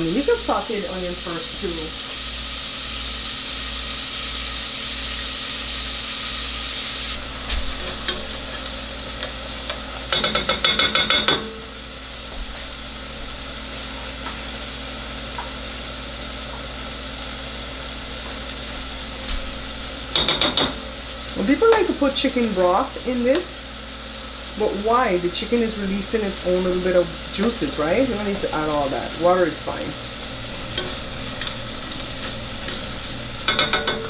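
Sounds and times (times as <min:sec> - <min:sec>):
chicken sizzling in a pot: 0:00.0 - 0:34.0.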